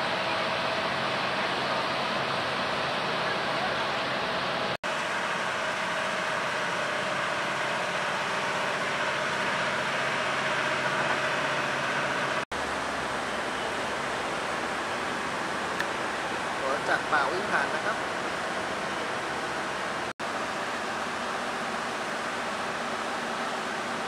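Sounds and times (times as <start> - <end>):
diesel locomotive rumbling past: 0.0 - 24.0
idling diesel railcars: 0.0 - 24.0.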